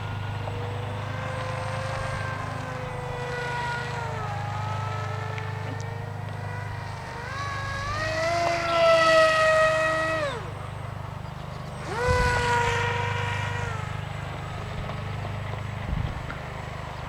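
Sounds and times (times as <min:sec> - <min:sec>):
electric motor and propeller whining: 0:00.0 - 0:17.0.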